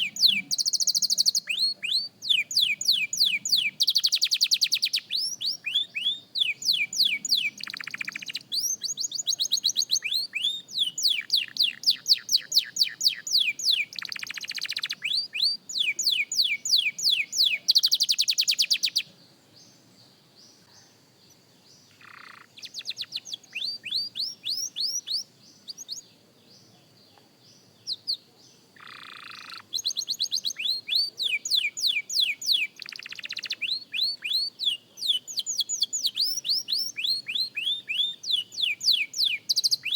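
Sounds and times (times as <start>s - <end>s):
canary singing: 0.0s - 19.7s, 21.3s - 26.2s, 27.7s - 39.9s.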